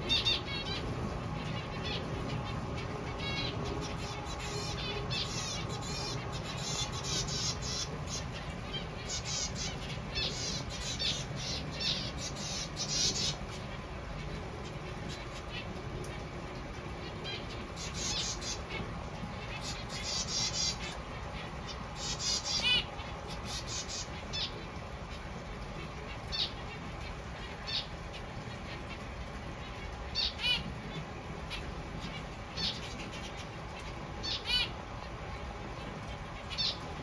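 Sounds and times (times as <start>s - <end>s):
finches beeping calls: 0.0s - 16.2s, 17.0s - 24.7s, 25.7s - 37.0s
steady low hum: 0.0s - 37.0s.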